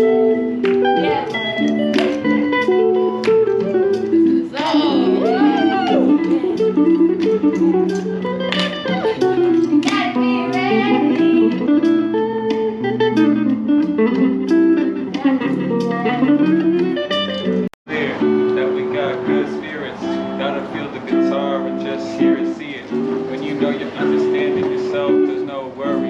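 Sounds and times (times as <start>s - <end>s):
guitar playing: 0.0s - 26.0s.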